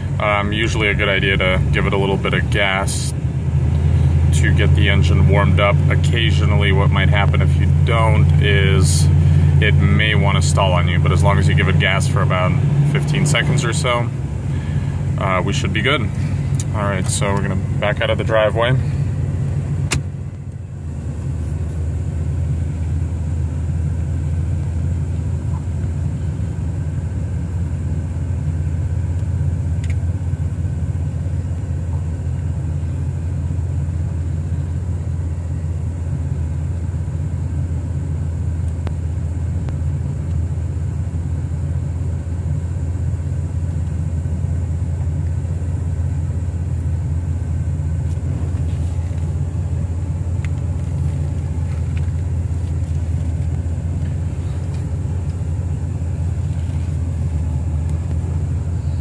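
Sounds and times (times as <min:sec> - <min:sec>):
car engine low rumble: 0:00.0 - 0:59.0.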